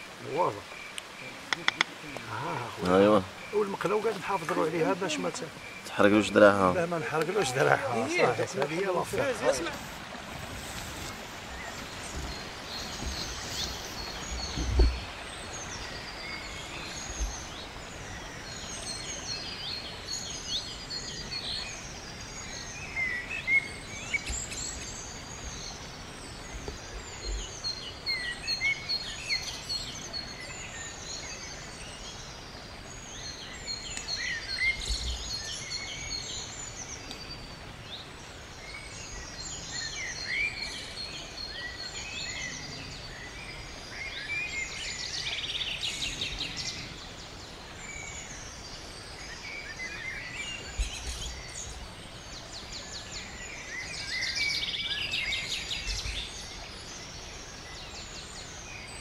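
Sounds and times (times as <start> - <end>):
birds singing and chirping: 0.0 - 59.0
stream rushing over rocks: 0.0 - 59.0.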